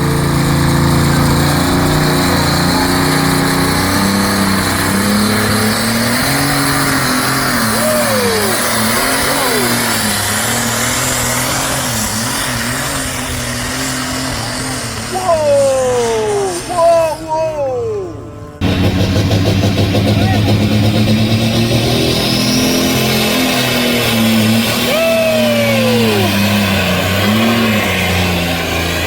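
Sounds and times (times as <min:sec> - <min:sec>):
short high-pitched glides: 0:00.0 - 0:28.6
truck engine revving: 0:00.0 - 0:29.0.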